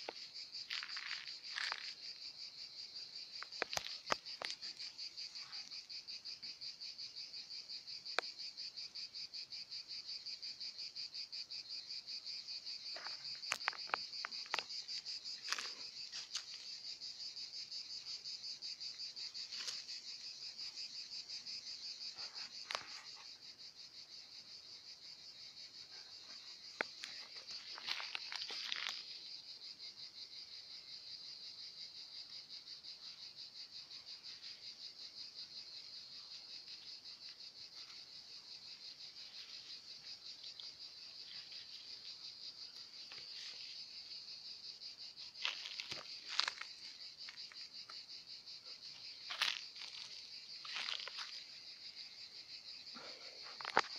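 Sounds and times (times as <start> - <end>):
insects trilling: 0.0 - 53.9.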